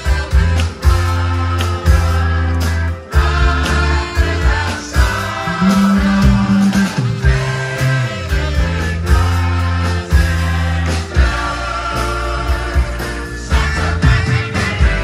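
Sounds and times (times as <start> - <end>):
group of voices singing: 0.0 - 15.0
live rock band playing: 0.0 - 15.0.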